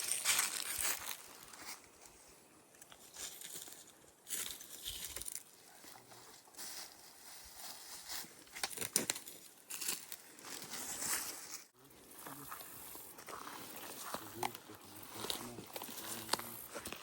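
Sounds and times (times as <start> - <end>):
rustling and crunching: 0.0 - 1.9, 2.9 - 17.0.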